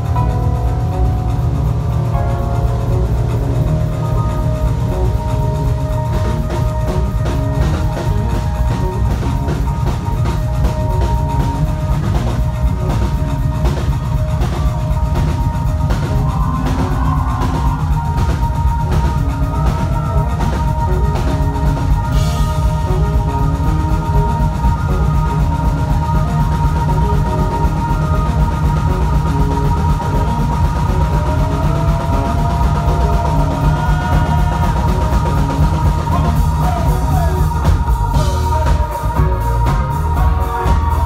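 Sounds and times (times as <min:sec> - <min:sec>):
drum kit beat: 0:00.0 - 0:41.0
electric guitar: 0:00.0 - 0:41.0
heavy bass: 0:00.0 - 0:41.0
held keyboard notes: 0:00.0 - 0:41.0
live band music: 0:00.0 - 0:41.0.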